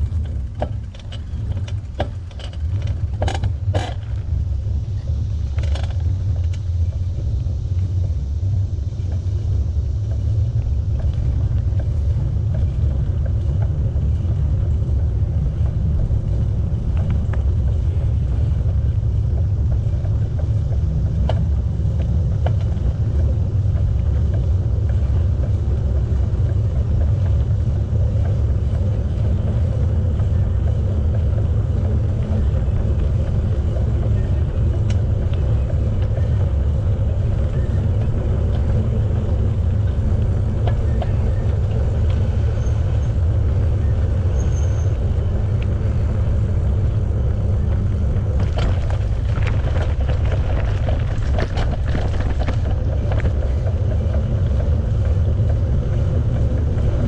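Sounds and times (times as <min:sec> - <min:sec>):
bicycle tyre noise on path: 0:00.0 - 0:57.0
wind buffeting microphone: 0:00.0 - 0:57.0.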